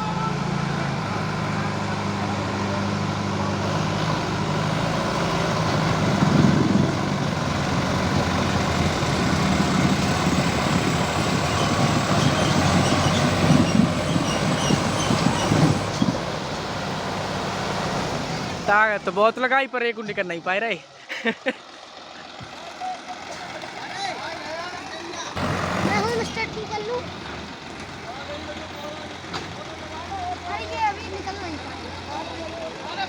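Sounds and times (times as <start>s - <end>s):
diesel tractor engine straining: 0.0s - 33.0s.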